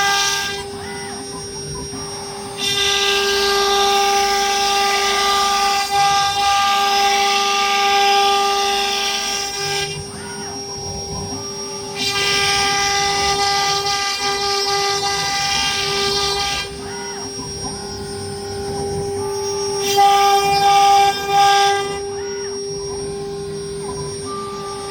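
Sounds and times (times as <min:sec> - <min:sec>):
router spindle whining: 0:00.0 - 0:24.9.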